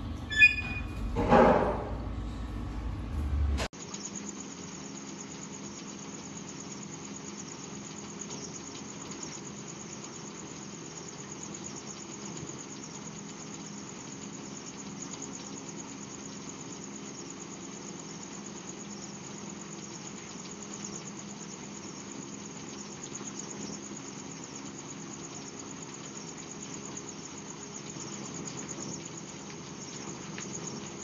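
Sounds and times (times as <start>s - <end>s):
motor hum: 0.0s - 31.0s.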